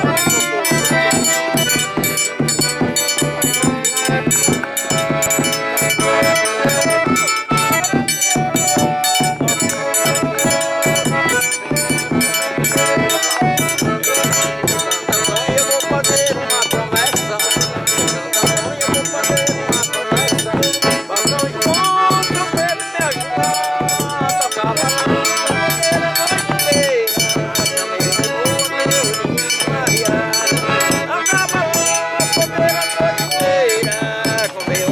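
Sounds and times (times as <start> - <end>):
button accordion: 0.0 - 34.9.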